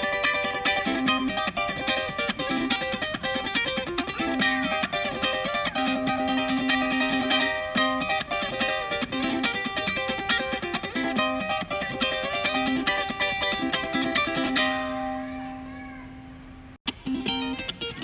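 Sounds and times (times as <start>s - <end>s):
fingerstyle guitar music: 0.0s - 16.3s, 16.9s - 18.0s.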